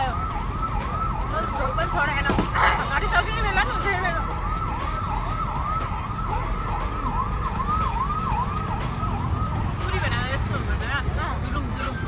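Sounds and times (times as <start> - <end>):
siren wailing: 0.0 - 11.0
traffic rumble: 0.0 - 12.0.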